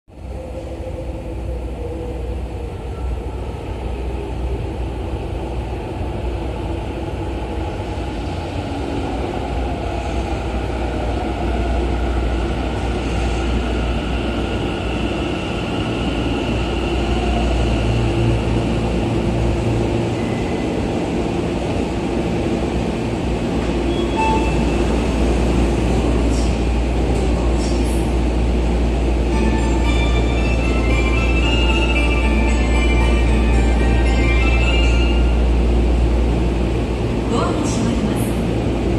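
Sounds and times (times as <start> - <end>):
subway train braking to a stop: 0.1 - 38.9.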